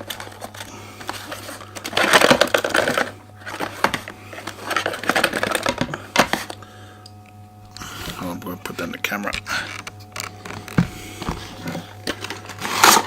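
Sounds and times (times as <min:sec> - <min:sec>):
packaging rustling and crackling: 0:00.0 - 0:06.8, 0:07.6 - 0:13.0.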